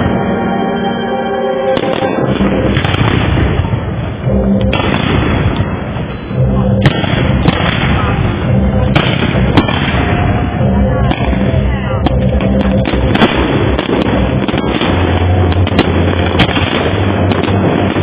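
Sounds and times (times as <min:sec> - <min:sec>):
fireworks bangs: 0:01.8 - 0:18.0
fireworks crackle and rumble: 0:01.8 - 0:18.0.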